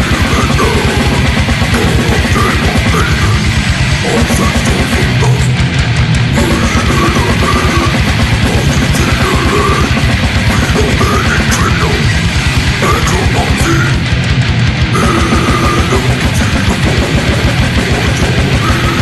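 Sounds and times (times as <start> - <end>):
distorted electric guitars: 0.0 - 19.0
fast drumming: 0.0 - 19.0.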